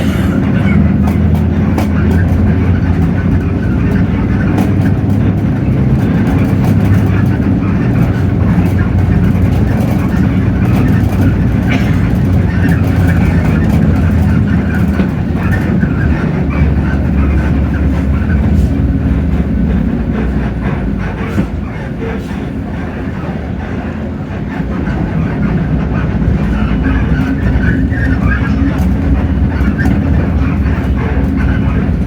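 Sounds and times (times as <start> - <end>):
bus diesel engine hum: 0.0 - 32.0.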